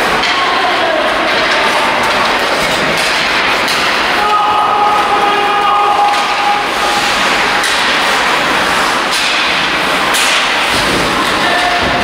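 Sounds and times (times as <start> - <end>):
hockey sticks and puck knocks: 0.0 - 5.2, 6.0 - 12.0.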